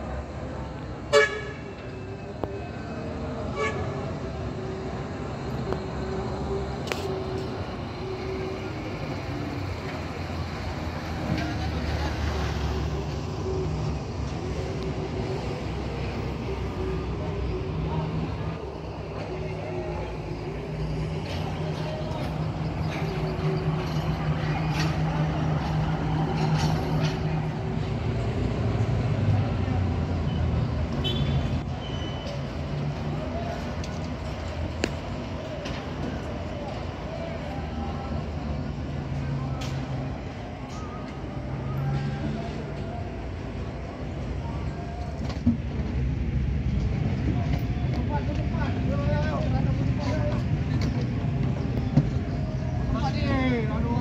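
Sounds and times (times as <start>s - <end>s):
truck engines rumbling: 0.0s - 54.0s.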